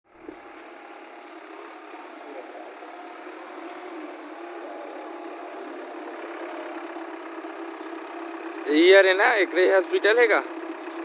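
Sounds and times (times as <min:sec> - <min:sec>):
diesel engine running: 0:00.1 - 0:11.0.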